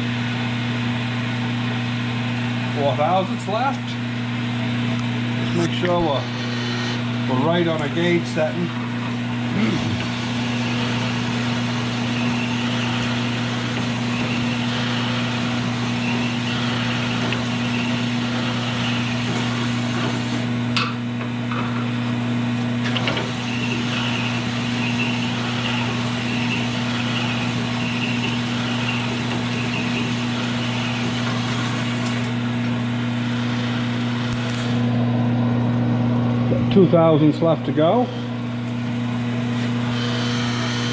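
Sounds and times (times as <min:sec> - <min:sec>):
machine humming: 0:00.0 - 0:40.9.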